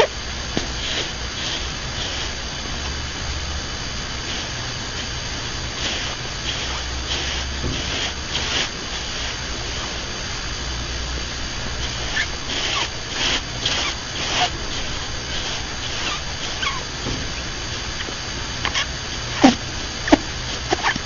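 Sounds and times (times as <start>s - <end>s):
rabbit snoring: 0.0s - 3.6s, 4.2s - 10.2s, 11.0s - 21.0s
steady low hum: 0.0s - 21.0s.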